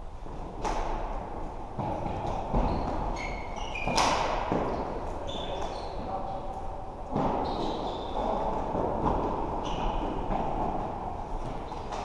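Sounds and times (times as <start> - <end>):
shoes squeaking on court floor: 1.8 - 12.0.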